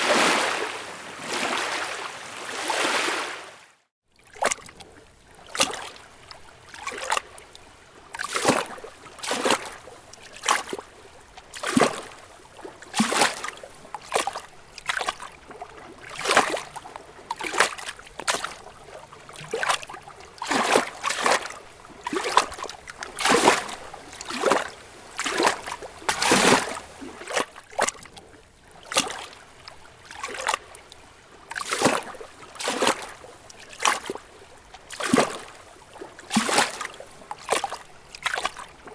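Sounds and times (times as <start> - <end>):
lake waves lapping against rocks: 0.0 - 38.9.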